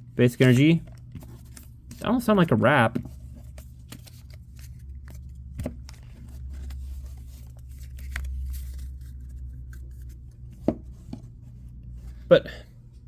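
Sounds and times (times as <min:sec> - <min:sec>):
steady low hum: 0:00.0 - 0:13.0
cards being shuffled: 0:00.4 - 0:11.8.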